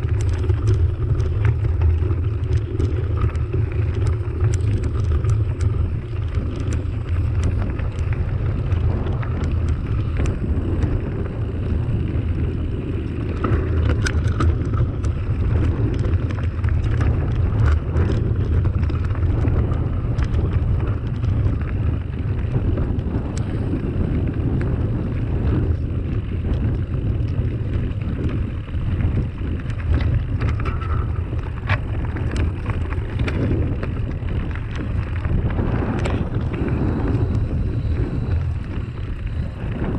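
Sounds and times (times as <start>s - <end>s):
stones and bike rattling: 0.0s - 39.9s
tyres rumbling on gravel: 0.0s - 39.9s
wind on microphone: 0.0s - 39.9s.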